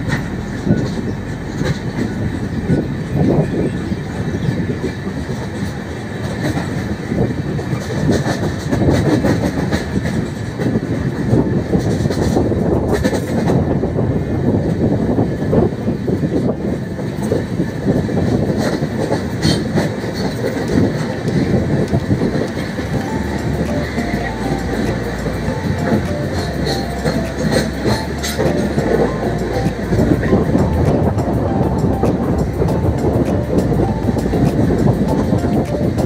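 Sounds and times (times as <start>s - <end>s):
clacking over rail joints: 0.0s - 13.8s, 17.1s - 36.0s
rumble of wheels on rail: 0.0s - 36.0s.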